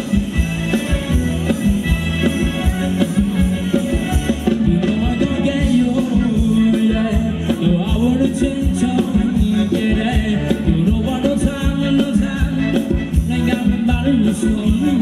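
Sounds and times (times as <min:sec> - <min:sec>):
bass: 0:00.0 - 0:15.0
dance music from live band: 0:00.0 - 0:15.0
steady drum beat: 0:00.0 - 0:15.0
sung melody: 0:00.0 - 0:15.0.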